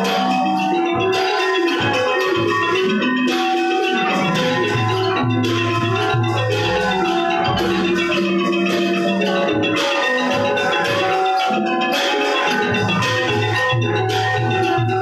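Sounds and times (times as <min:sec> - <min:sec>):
xylophones playing fast runs: 0:00.0 - 0:15.0.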